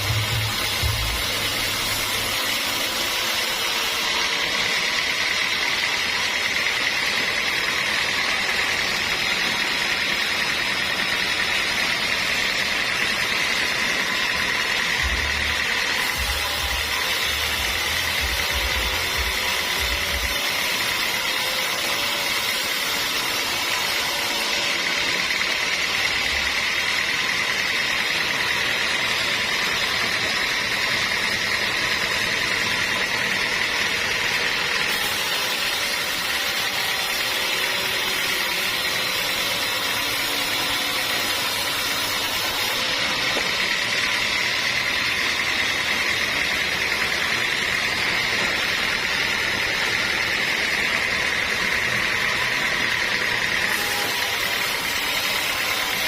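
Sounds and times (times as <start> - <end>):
saw cutting hard wood: 0.0 - 56.0.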